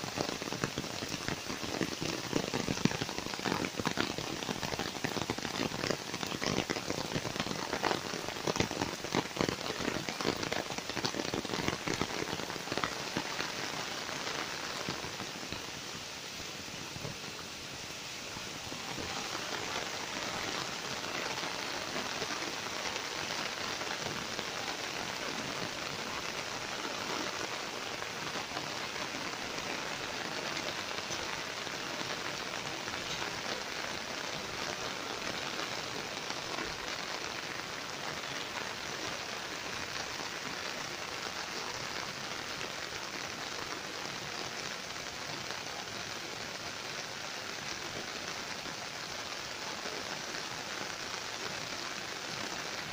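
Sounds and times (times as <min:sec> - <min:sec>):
rain falling on foliage: 0:00.0 - 0:52.9.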